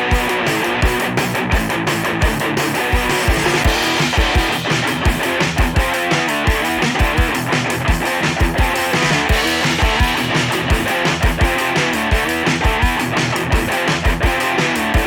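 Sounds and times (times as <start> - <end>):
guitar music with drum beat: 0.0 - 15.0.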